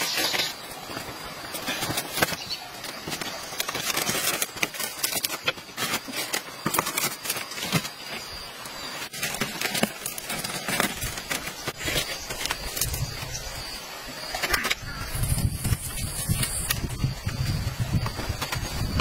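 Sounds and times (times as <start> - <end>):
palm leaves rustling and crackling: 0.0 - 19.0.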